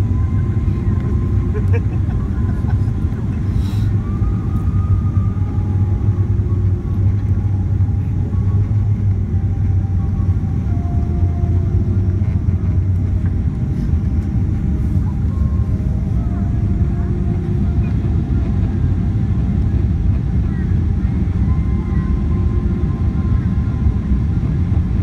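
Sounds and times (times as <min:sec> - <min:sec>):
airplane cabin engine rumble: 0:00.0 - 0:25.0
faint whining tones: 0:00.0 - 0:25.0.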